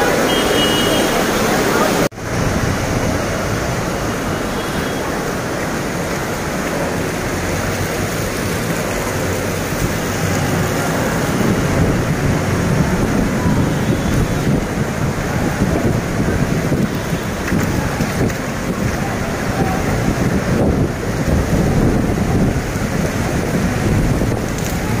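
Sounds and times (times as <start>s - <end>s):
floodwater rushing over road: 0.0s - 25.0s
heavy rain: 0.0s - 25.0s.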